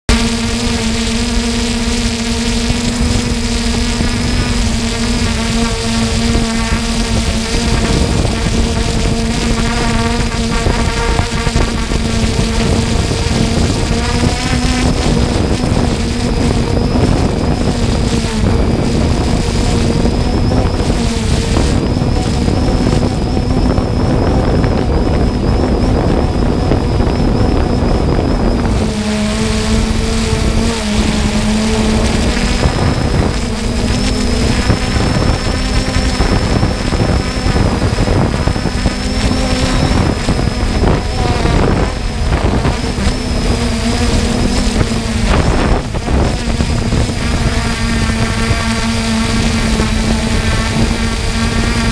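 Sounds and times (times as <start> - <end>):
drone propellers humming: 0.0 - 51.9
wind on microphone: 0.1 - 51.9.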